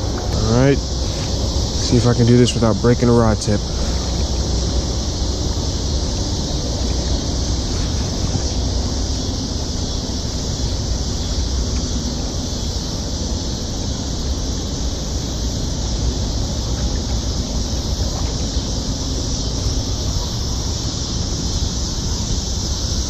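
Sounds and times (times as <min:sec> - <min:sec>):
high hiss: 0:00.0 - 0:23.0.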